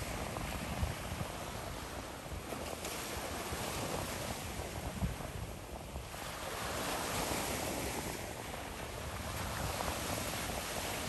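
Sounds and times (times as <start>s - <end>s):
small waves breaking: 0.0s - 11.0s
wind rumbling on microphone: 0.0s - 11.0s.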